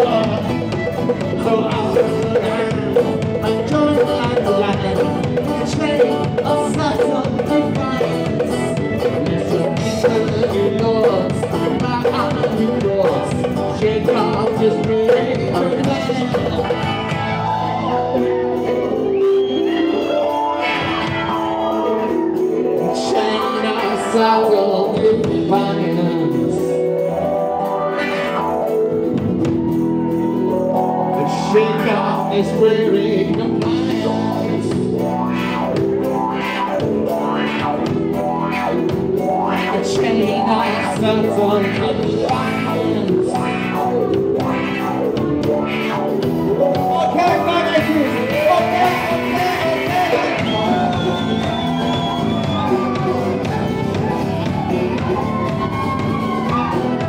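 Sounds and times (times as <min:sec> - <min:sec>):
live band playing: 0:00.0 - 0:57.0
person singing: 0:00.0 - 0:57.0.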